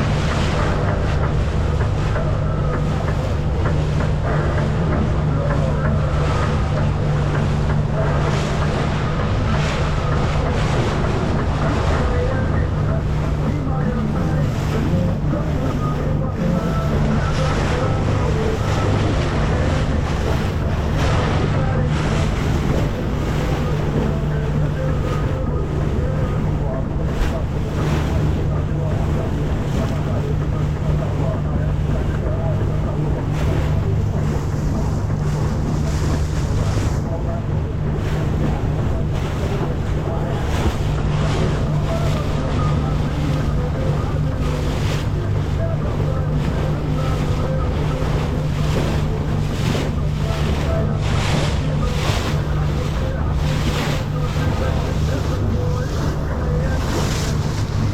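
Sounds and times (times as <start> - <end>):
boat engine running: 0.0 - 57.9
water rushing: 0.0 - 57.9
wind buffeting microphone: 0.0 - 57.9.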